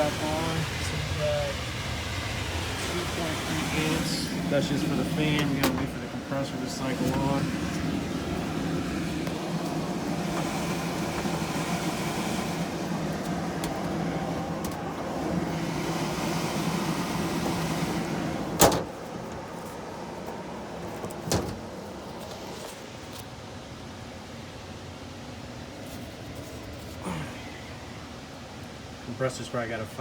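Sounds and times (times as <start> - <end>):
blower fan running: 0.0 - 30.0.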